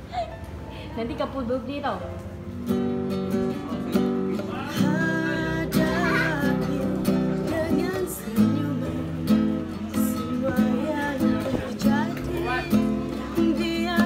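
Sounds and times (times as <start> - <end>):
classical guitar chords: 0.0 - 14.0.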